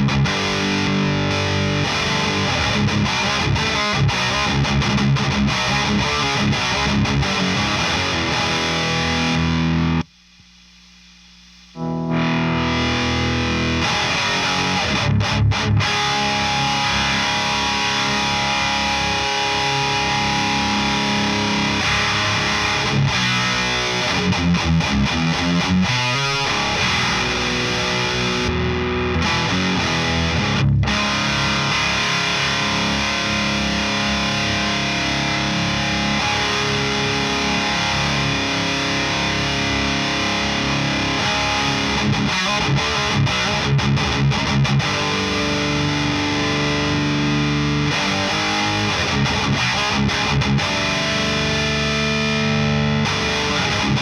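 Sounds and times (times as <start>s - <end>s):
distorted electric guitar riffs: 0.0s - 54.0s.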